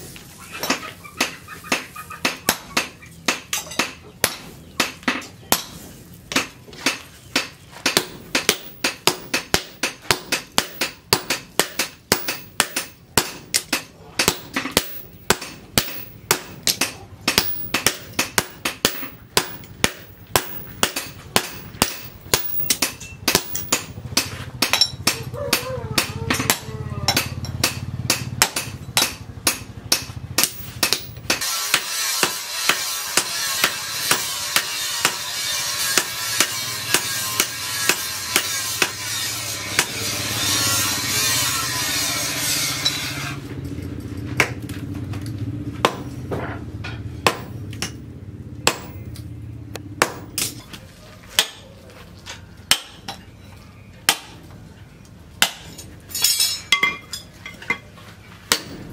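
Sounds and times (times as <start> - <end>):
hammer striking hot steel on anvil: 0.7 - 43.4, 46.8 - 48.0, 48.6 - 49.2, 50.0 - 50.6, 55.4 - 57.8, 58.5 - 58.9.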